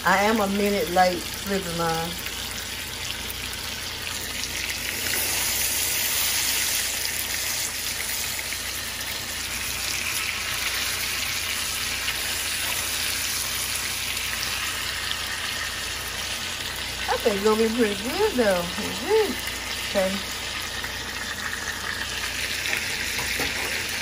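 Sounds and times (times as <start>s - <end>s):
steak sizzling in a skillet: 0.1s - 24.0s.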